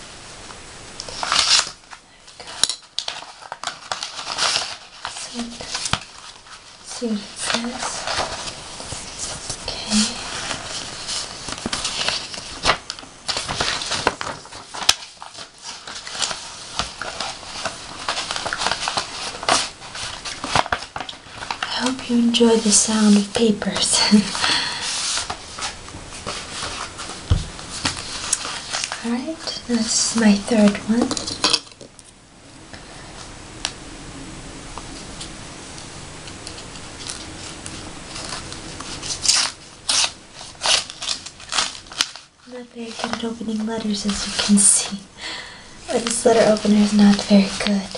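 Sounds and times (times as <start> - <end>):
faint steady hiss: 0.0 - 47.9
paper rustling and crinkling: 1.0 - 32.2, 34.9 - 45.1, 45.8 - 47.9.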